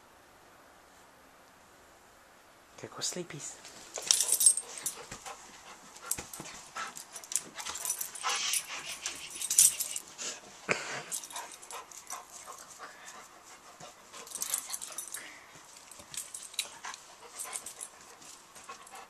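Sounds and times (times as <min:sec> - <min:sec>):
hands rustling on fur: 0:03.6 - 0:19.0.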